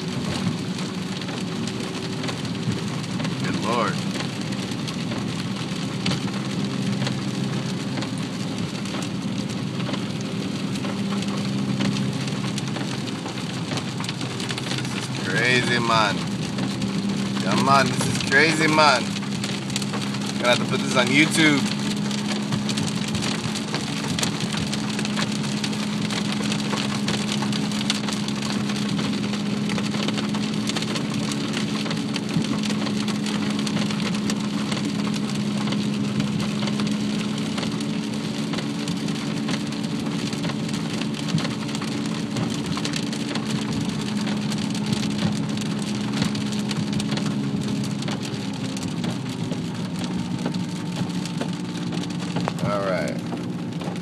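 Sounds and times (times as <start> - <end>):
hail and rain on car roof: 0.0 - 54.0.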